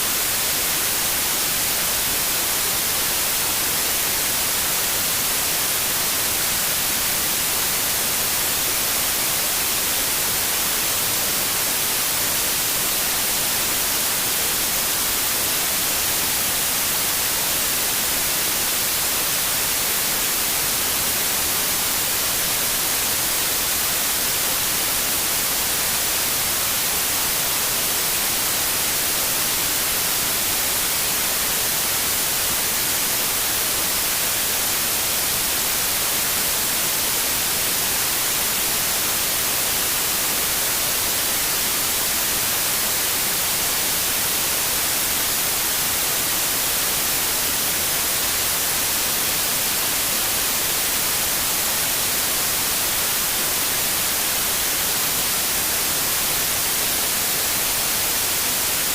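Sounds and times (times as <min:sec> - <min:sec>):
white noise hiss: 0:00.0 - 0:58.9.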